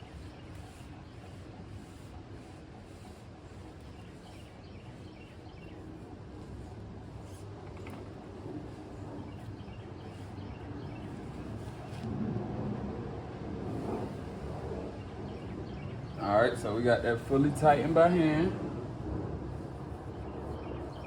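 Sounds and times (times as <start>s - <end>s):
wind rumble: 0.0s - 21.0s.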